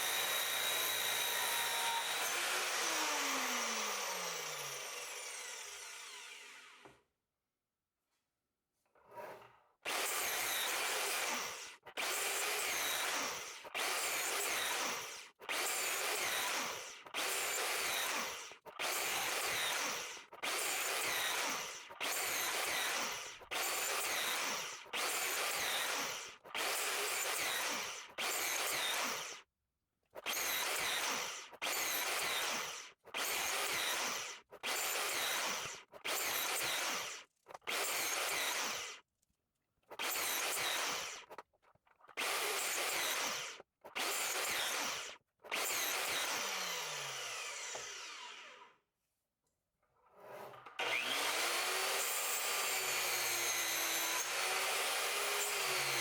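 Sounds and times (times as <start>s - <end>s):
miter saw cutting wood: 0.0s - 6.9s, 9.9s - 29.4s, 30.2s - 39.0s, 39.9s - 41.4s, 42.2s - 48.7s, 50.4s - 56.0s.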